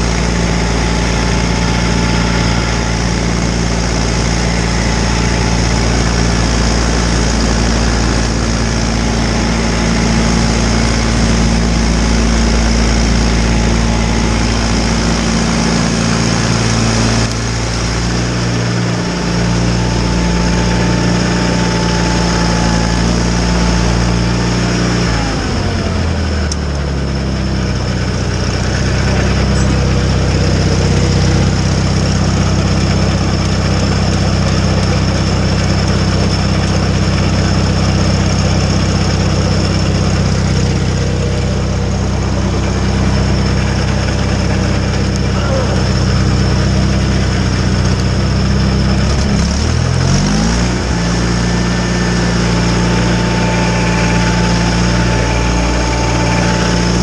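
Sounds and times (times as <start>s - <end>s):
garden tractor engine running: 0.0s - 57.0s
thin whine: 0.0s - 57.0s.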